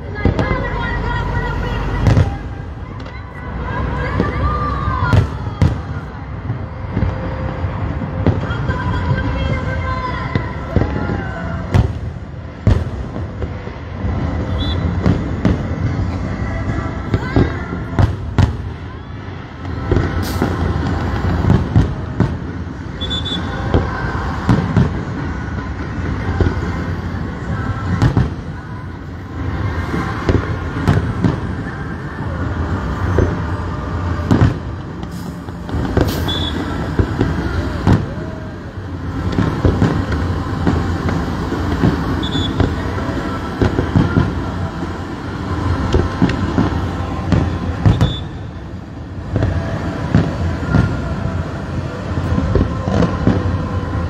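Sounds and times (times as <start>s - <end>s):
dense background din: 0.0s - 54.0s
fireworks bangs and crackles: 0.0s - 54.0s.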